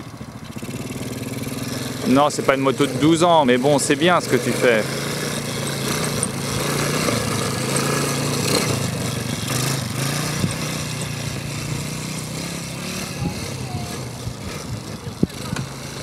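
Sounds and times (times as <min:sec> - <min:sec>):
quad engine droning: 0:00.0 - 0:16.0.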